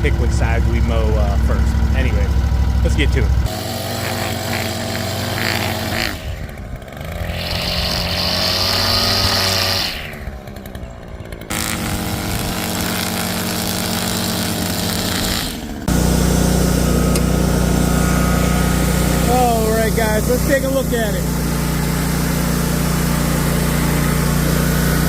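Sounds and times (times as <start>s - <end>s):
small engines running: 0.0s - 25.0s.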